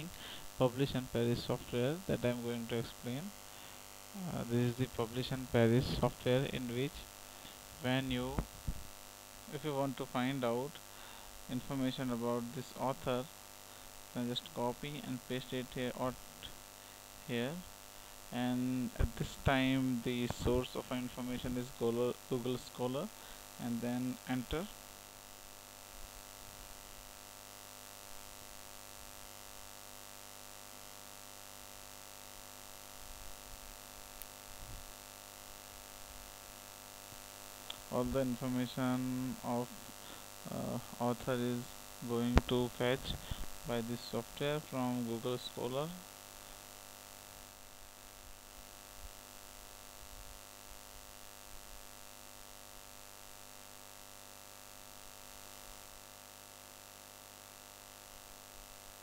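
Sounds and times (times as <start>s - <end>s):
electrical mains hum: 0.0s - 59.0s
microphone hiss: 0.0s - 59.0s.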